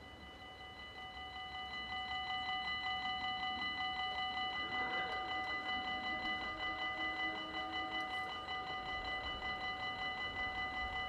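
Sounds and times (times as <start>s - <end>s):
level crossing bells ringing: 0.0s - 11.0s.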